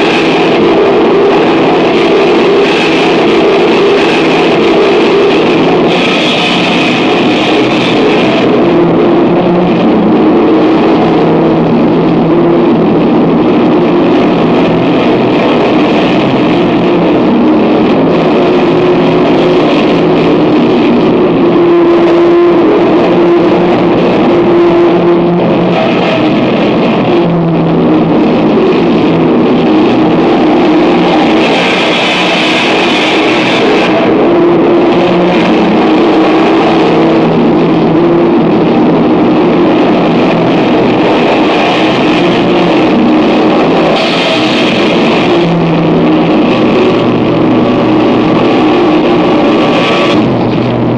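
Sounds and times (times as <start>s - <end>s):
distorted noise music: 0.0s - 50.9s
droning low tones: 0.0s - 50.9s.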